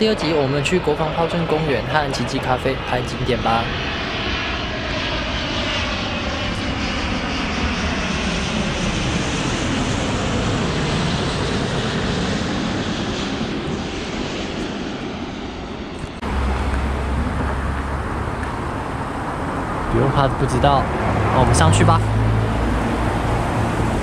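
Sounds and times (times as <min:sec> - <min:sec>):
airliner jet engines roaring: 0:00.0 - 0:24.0
steady low rumble: 0:00.0 - 0:24.0.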